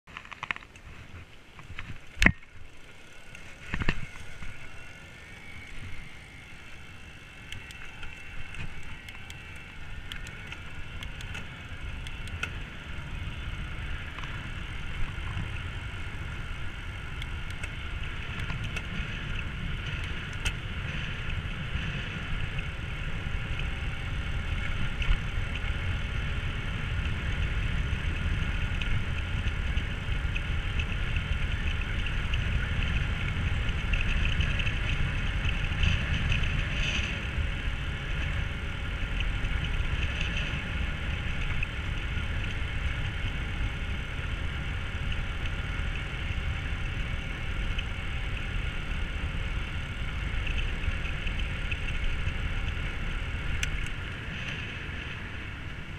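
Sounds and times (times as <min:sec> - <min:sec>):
wind noise on microphone: 0:00.0 - 0:55.9
faint motor whine: 0:00.1 - 0:55.9.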